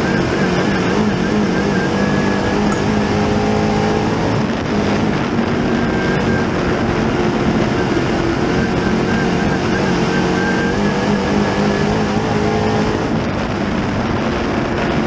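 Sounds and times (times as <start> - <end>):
chassis noise: 0.0 - 15.0
racing engine running hard: 0.0 - 15.0
wind roar: 0.0 - 15.0.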